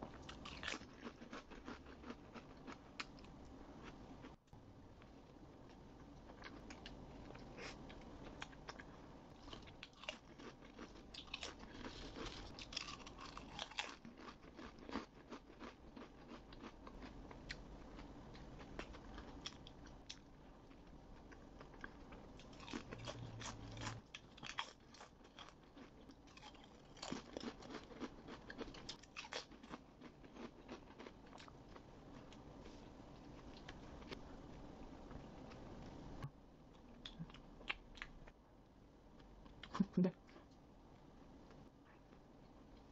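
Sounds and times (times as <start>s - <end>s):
person chewing with crisp crunches: 0.1s - 4.4s, 5.0s - 38.4s.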